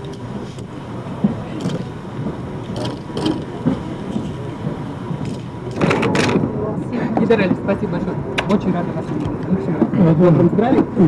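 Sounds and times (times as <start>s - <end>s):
murmur of people talking: 0.0s - 11.0s.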